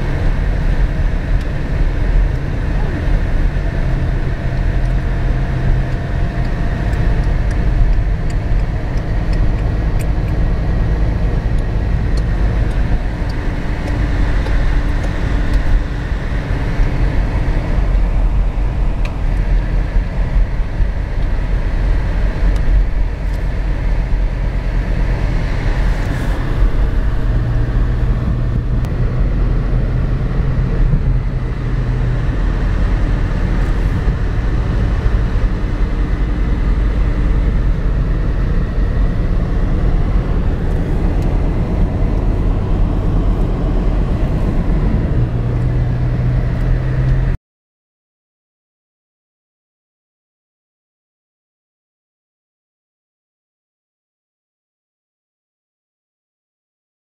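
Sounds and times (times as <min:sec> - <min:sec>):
car engine hum: 0:00.0 - 0:47.4
tyres rumbling on road: 0:00.0 - 0:47.4.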